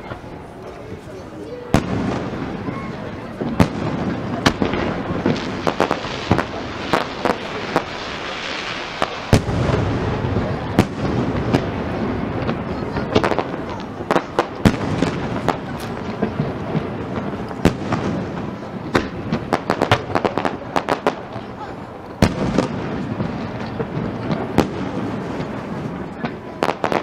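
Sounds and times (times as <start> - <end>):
fireworks bangs: 0.0 - 27.0
fireworks crackle: 0.0 - 27.0.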